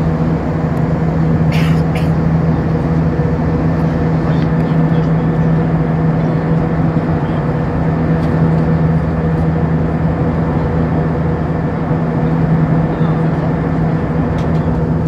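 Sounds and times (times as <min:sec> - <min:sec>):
aircraft cabin engine noise: 0:00.0 - 0:15.0.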